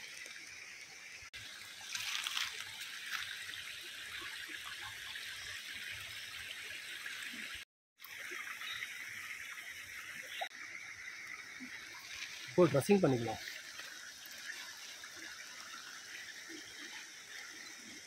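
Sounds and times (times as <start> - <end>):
water trickling over rocks: 0.0 - 18.0.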